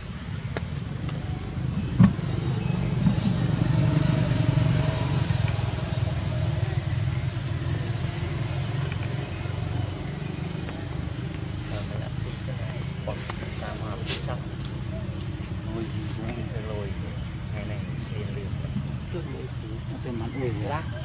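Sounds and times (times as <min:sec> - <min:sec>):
motor vehicle engine rumble: 0:00.0 - 0:20.5.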